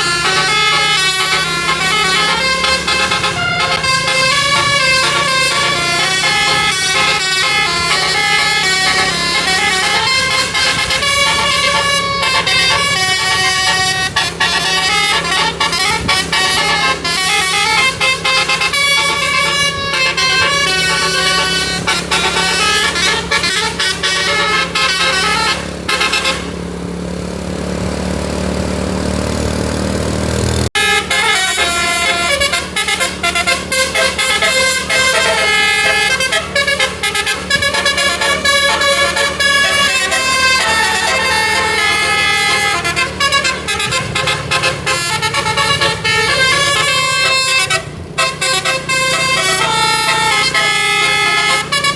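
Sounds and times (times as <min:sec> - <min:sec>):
bus musical air horns: 0:00.0 - 0:27.2, 0:30.3 - 0:51.9
bus engine pulling: 0:00.0 - 0:51.9.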